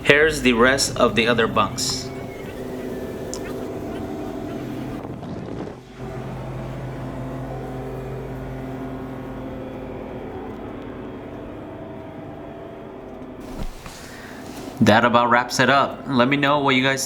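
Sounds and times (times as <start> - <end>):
boat machinery humming: 0.0 - 17.0.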